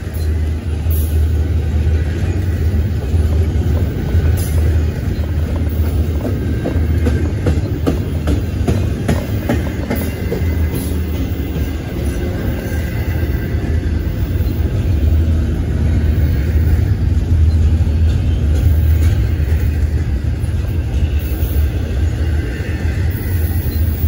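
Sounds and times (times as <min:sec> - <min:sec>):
train cars rolling on rails: 0:00.0 - 0:24.0.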